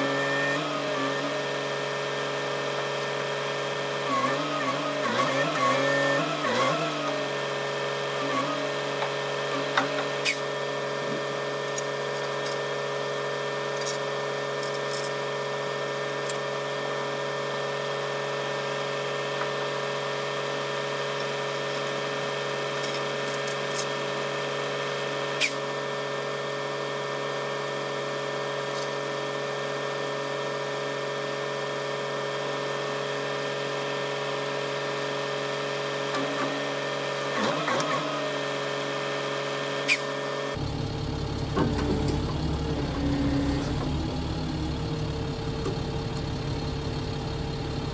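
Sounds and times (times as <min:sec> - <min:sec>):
engine idling with whine: 0:00.0 - 0:47.9.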